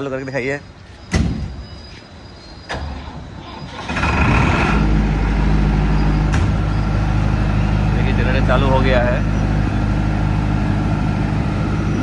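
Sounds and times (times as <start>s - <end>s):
diesel generator starting and running: 0.0s - 12.0s.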